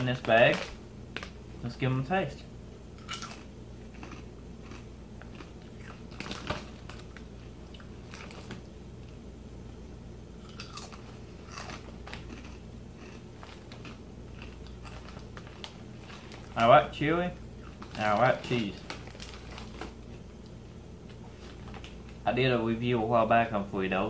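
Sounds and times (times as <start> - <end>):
corn chips crunching: 0.0 - 1.8, 3.0 - 9.2, 10.4 - 22.2
steady low hum: 0.0 - 24.0.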